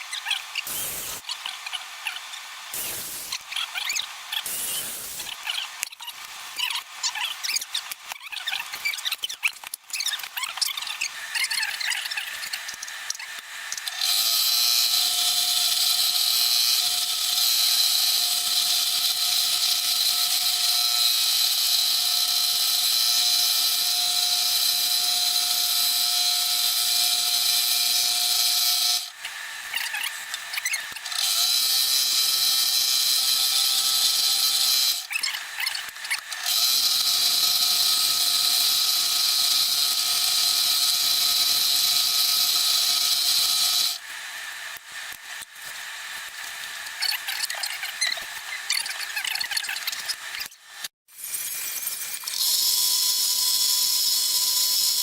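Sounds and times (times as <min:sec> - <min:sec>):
electric scroll saw whining: 0:00.0 - 0:55.0.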